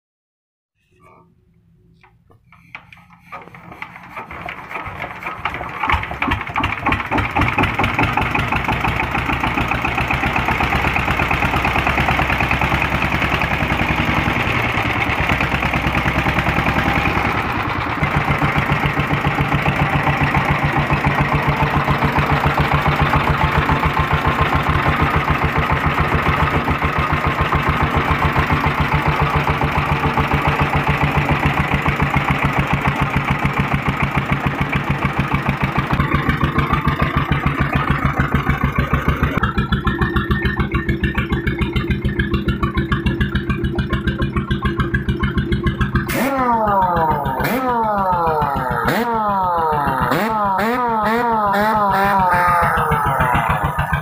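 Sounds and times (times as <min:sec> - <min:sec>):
diesel engine running: 0:02.0 - 0:54.0.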